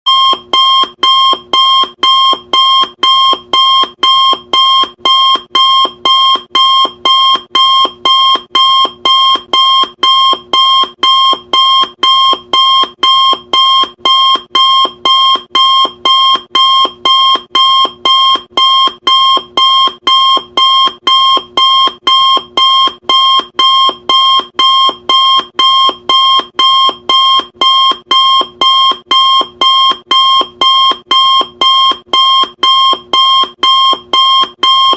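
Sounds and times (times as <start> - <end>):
timer alarm beeping: 0.1 - 34.9.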